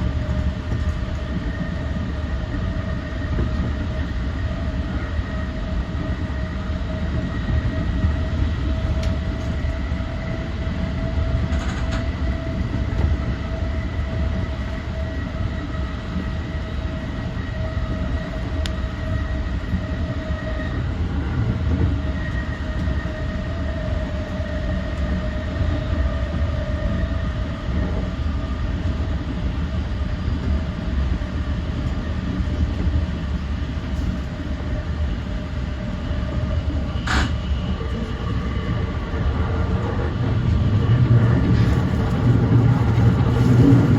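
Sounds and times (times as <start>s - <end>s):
electric train whine: 0.0s - 43.9s
train wheels rumbling on track: 0.0s - 43.9s.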